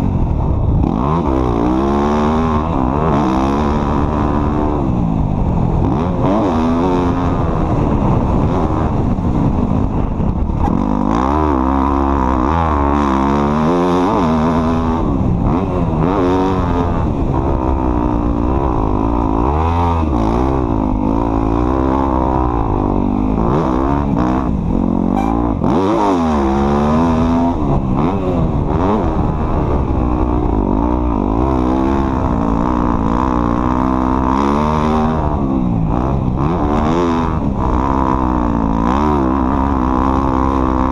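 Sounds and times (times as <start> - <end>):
off-road vehicle engine revving: 0.8 - 40.9.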